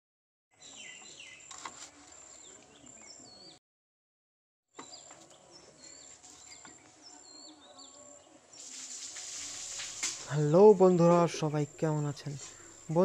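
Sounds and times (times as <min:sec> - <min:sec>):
small birds chirping: 0:00.5 - 0:03.6, 0:04.8 - 0:13.0.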